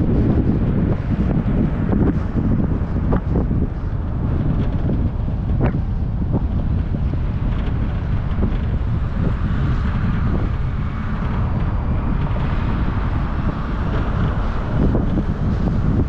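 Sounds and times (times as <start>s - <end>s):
car engine and tyre rumble: 0.0s - 16.0s
wind buffeting microphone: 0.0s - 16.0s.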